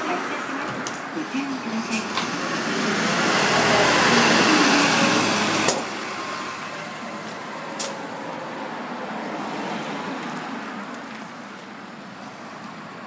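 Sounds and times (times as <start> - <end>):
bus engine and tyre noise: 0.0 - 13.0.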